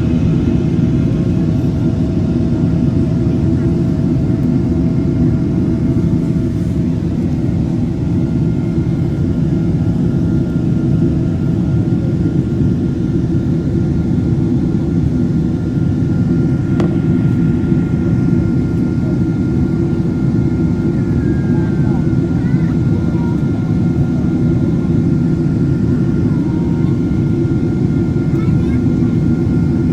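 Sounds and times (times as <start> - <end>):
jet engines rumbling: 0.0 - 29.9.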